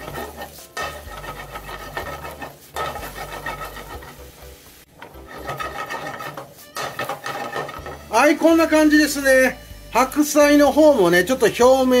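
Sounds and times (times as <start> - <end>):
scraping in a frying pan: 0.0 - 9.9
cabbage sizzling in a pan: 0.0 - 12.0.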